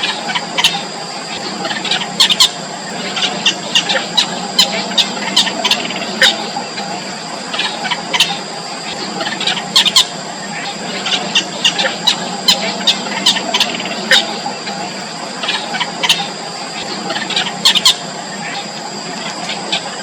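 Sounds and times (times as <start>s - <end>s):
constant high-pitched tone: 0.0s - 20.0s
bird chicks squeaky calls: 0.1s - 14.6s, 15.4s - 19.9s.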